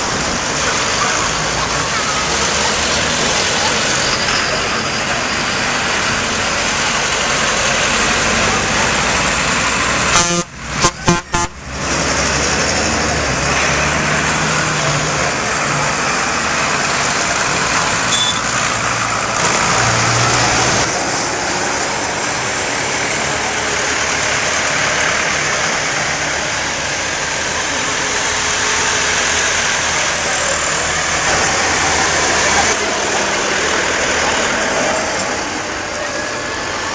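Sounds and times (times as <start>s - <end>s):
tractor engines driving by: 0.0s - 36.9s.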